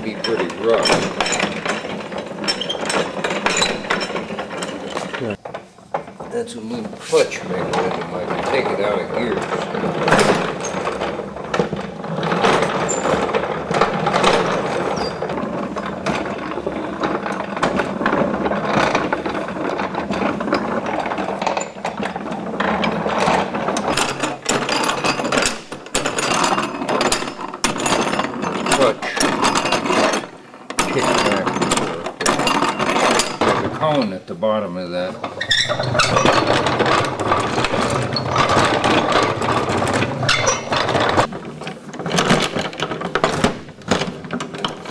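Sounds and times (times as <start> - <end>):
washing machine gearing clattering: 0.0 - 44.9.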